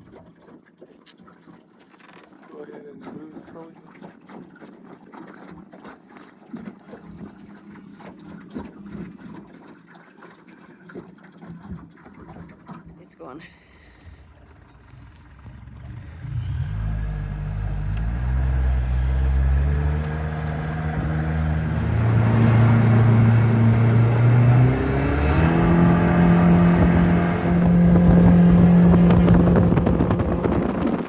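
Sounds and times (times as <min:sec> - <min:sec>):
boat engine accelerating: 0:00.0 - 0:31.0.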